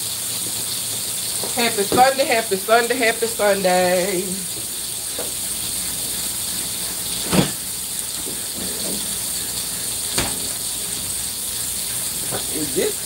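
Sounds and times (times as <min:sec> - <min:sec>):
fish sizzling in a frying pan: 0:00.0 - 0:13.0.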